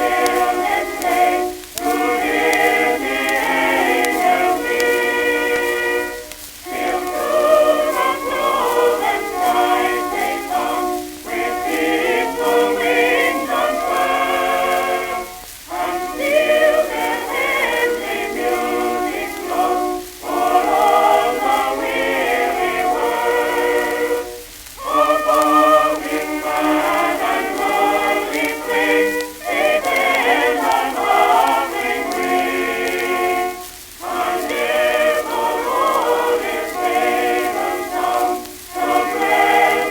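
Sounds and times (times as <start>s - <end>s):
choir singing on old record: 0.0s - 39.9s
record surface crackle: 0.0s - 39.9s.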